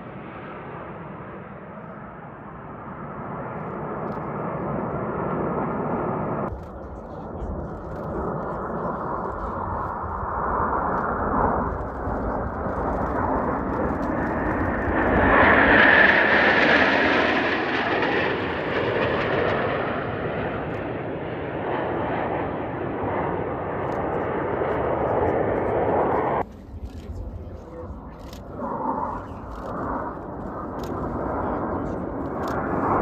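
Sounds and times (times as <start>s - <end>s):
fighter jets flying past: 0.0s - 33.0s.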